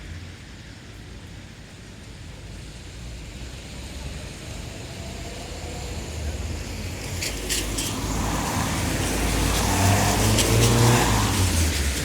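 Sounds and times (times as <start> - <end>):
tyres hissing on wet road: 0.0 - 12.0.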